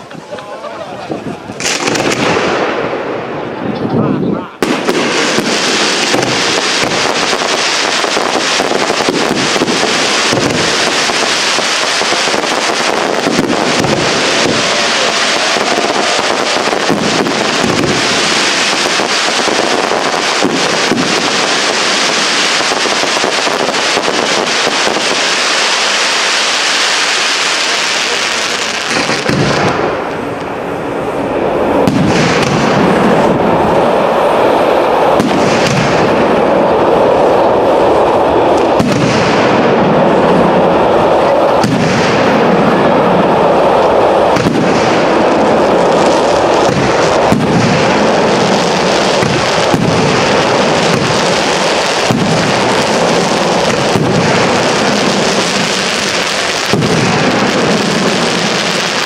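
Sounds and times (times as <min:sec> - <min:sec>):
firework crackle: 0:00.0 - 0:59.0
firework shells bursting: 0:01.5 - 0:03.0, 0:04.6 - 0:30.6, 0:31.6 - 0:36.6, 0:38.0 - 0:59.0.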